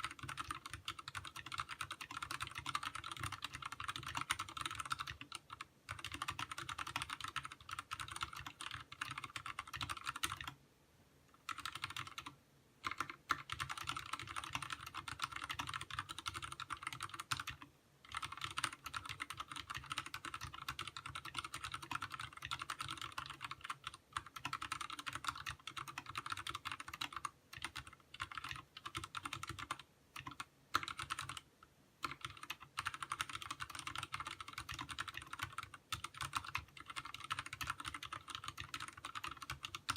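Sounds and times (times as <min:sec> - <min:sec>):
typing on mechanical keyboard: 0:00.0 - 0:10.6, 0:11.4 - 0:39.9.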